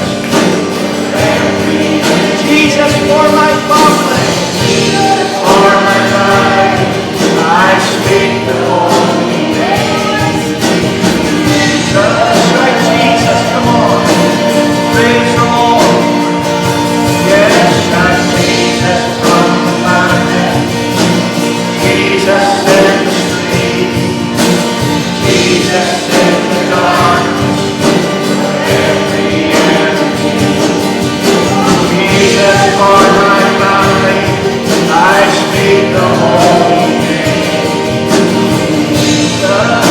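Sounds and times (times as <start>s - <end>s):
group of voices singing: 0.0s - 39.9s
instrumental accompaniment: 0.0s - 39.9s.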